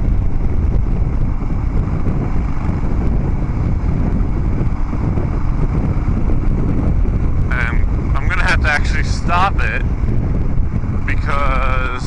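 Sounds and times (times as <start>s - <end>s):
motorcycle engine rumbling: 0.0s - 12.0s
wind buffeting microphone: 0.0s - 12.0s.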